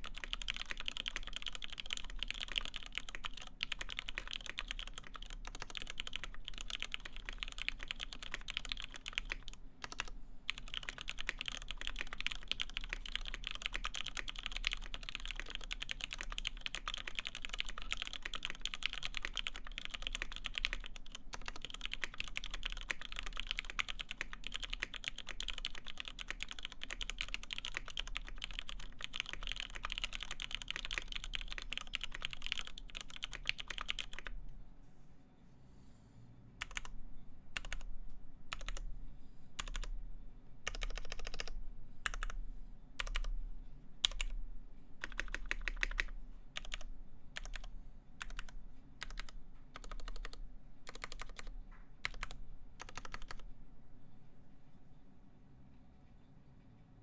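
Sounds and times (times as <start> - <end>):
mechanical keyboard typing: 0.0 - 34.4, 36.6 - 37.0, 37.6 - 37.9, 38.5 - 38.8, 39.6 - 39.9, 40.7 - 42.4, 43.0 - 43.3, 44.0 - 44.4, 45.0 - 53.4.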